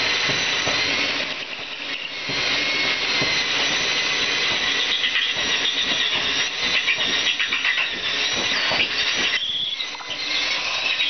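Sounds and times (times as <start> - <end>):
electric drill boring into steel: 0.0 - 11.0.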